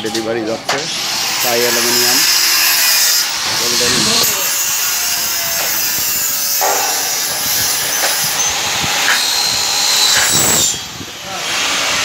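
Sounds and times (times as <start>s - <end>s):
power tool cutting metal: 0.6s - 12.0s.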